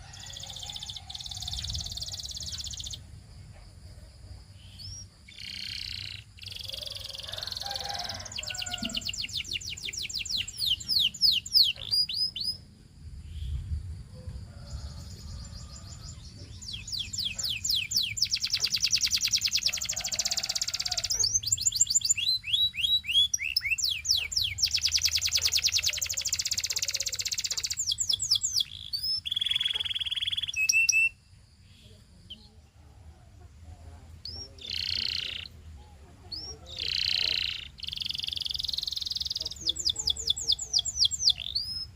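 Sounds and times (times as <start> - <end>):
canary singing trills: 0.0 - 3.1, 4.5 - 12.7, 14.6 - 32.7, 33.3 - 41.9.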